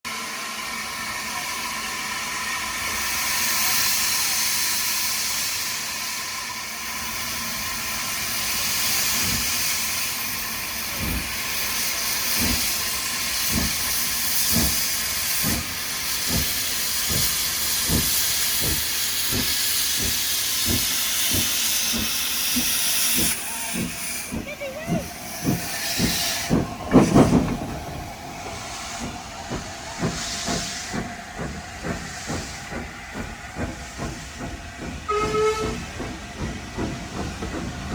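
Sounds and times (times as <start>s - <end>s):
steam locomotive hissing: 0.1s - 37.9s
locomotive exhaust chuffs: 1.1s - 37.9s.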